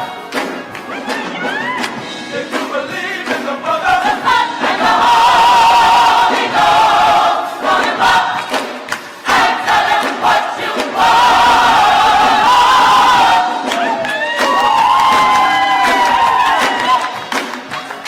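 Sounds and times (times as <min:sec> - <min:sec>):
gospel choir singing: 0:00.0 - 0:17.8.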